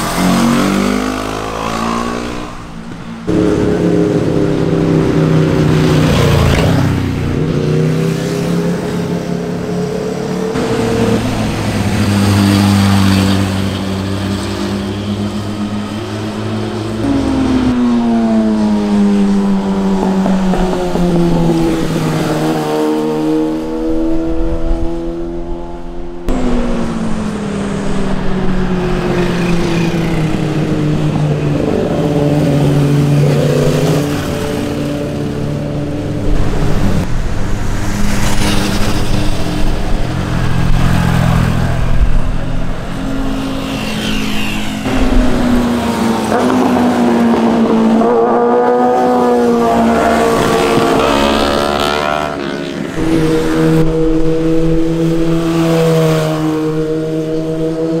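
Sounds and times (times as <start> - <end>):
motorcycles passing: 0.0 - 58.0.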